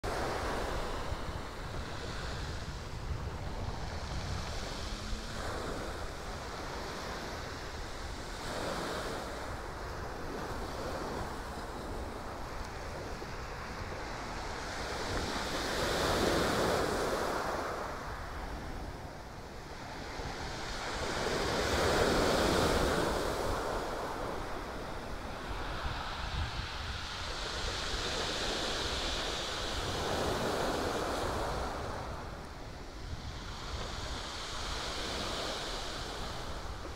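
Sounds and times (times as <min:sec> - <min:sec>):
wind on microphone: 0:00.0 - 0:36.9.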